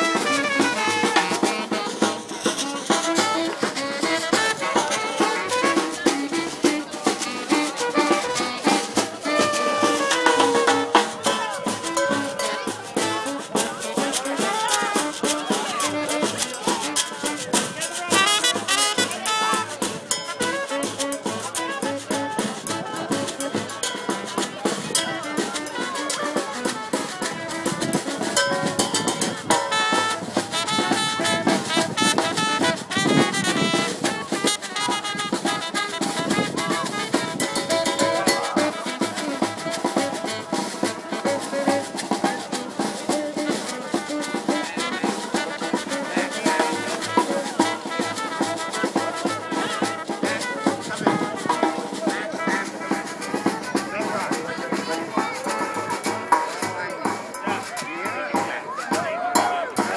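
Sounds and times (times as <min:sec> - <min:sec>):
saxophone: 0:00.0 - 0:53.8
steady drum beat: 0:00.0 - 0:59.9
trumpet: 0:00.0 - 0:59.9.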